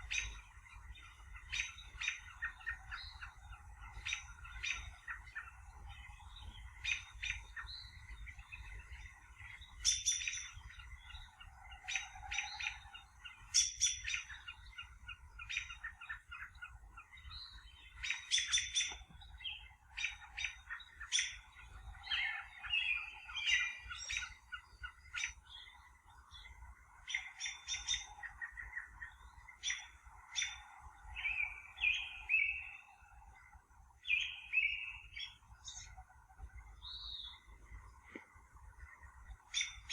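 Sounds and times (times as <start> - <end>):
steady low background noise: 0.0 - 39.9
wild birds chirping and trilling: 0.0 - 39.9.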